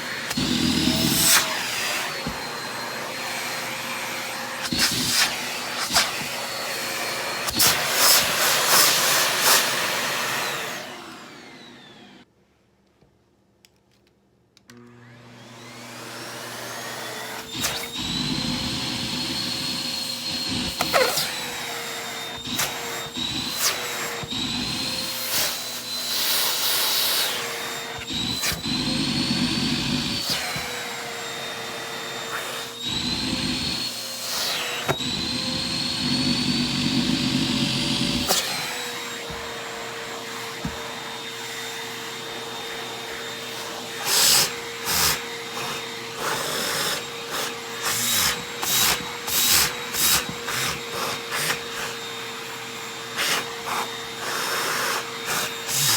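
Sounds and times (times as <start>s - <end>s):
vacuum cleaner motor whine: 0.0s - 12.3s, 14.7s - 55.9s.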